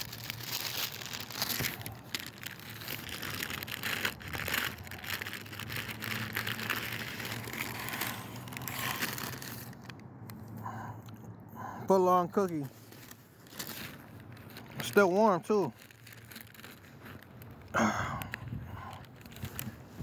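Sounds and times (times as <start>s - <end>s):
paper wrapper crinkling: 0.0s - 10.4s, 12.3s - 20.0s.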